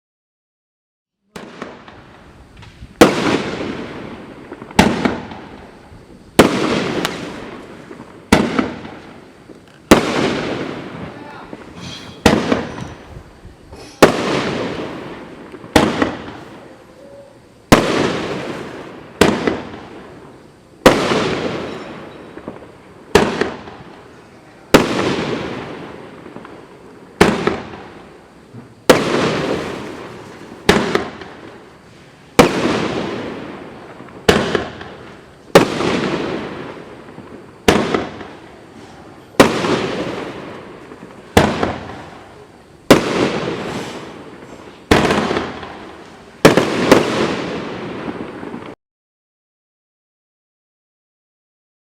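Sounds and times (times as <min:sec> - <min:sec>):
firework cake bangs: 0:01.3 - 0:09.2, 0:09.8 - 0:16.8, 0:17.7 - 0:20.2, 0:20.8 - 0:31.7, 0:32.3 - 0:48.8.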